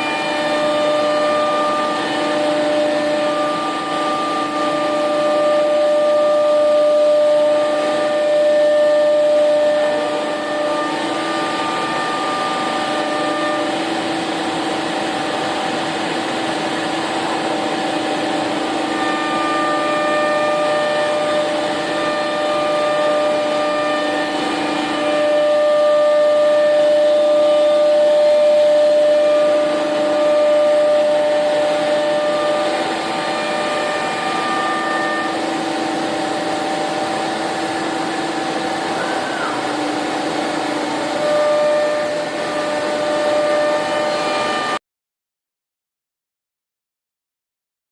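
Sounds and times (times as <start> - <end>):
router machine hum and whine: 0.0 - 44.8.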